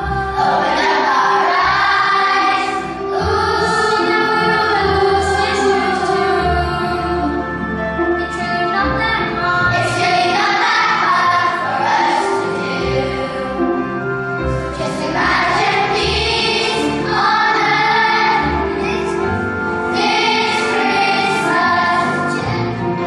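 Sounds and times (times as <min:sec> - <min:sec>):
background music with sung vocals: 0:00.0 - 0:23.0.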